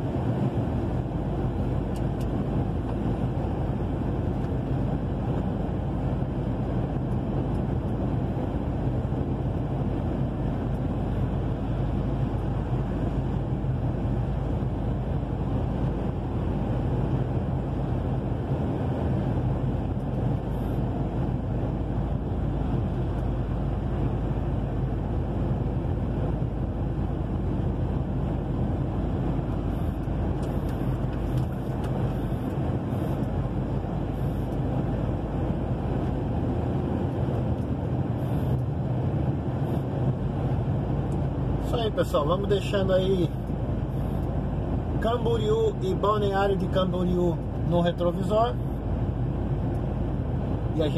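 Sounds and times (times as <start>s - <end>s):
truck engine drone: 0.0s - 50.9s.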